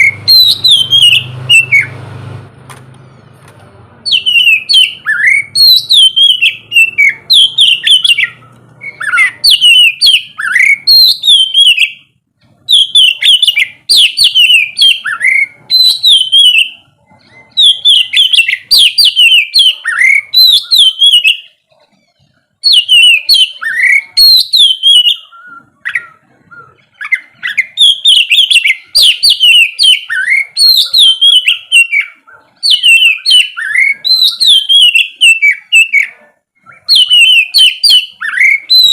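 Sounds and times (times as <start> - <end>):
songbird singing whistled phrases: 0.0 - 2.0, 4.0 - 21.6, 22.6 - 38.9.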